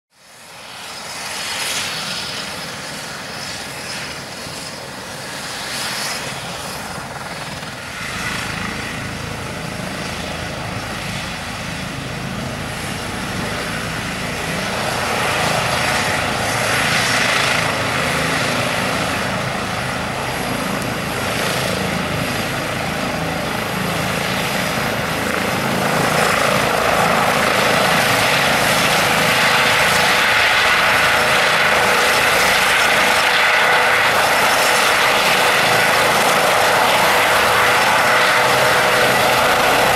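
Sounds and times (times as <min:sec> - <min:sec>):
helicopter turbines whining: 0:00.2 - 0:39.9
helicopter rotors turning: 0:00.3 - 0:39.9.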